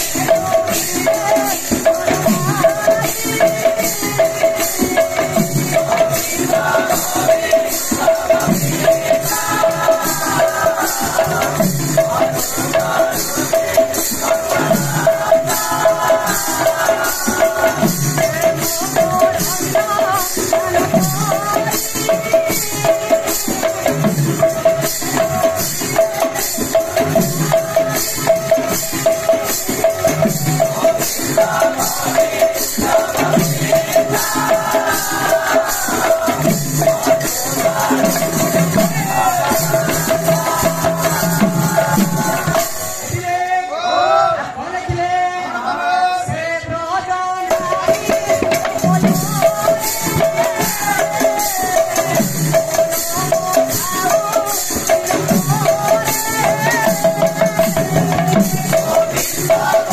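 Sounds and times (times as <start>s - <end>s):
clay drum fast rhythm: 0.0s - 43.8s, 46.2s - 59.9s.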